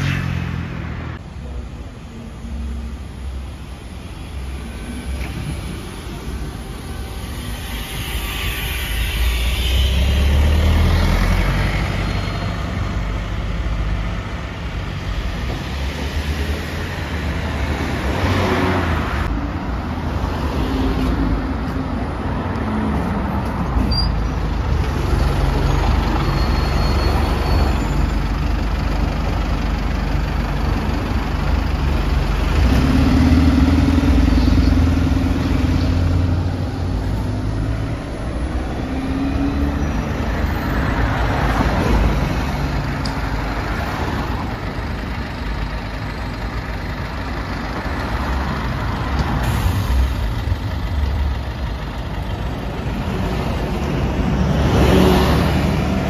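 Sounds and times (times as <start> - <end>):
traffic rumble: 0.0 - 56.0
vehicles passing close: 0.0 - 56.0.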